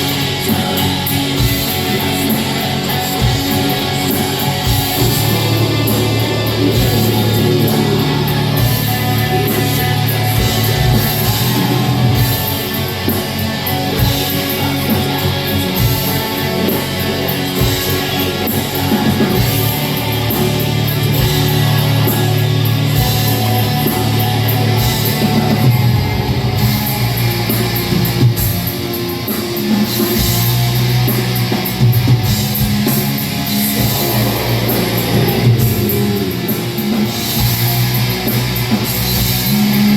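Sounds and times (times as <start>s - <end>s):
metal band playing live: 0.0s - 39.9s.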